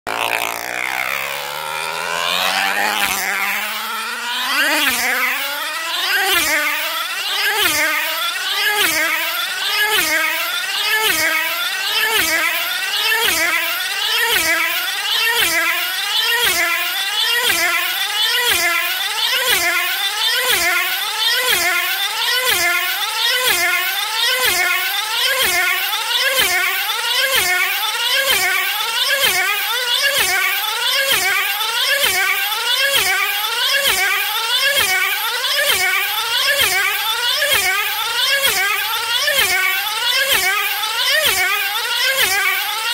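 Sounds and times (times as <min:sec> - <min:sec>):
model engine running at high revs: 0:00.0 - 0:42.9.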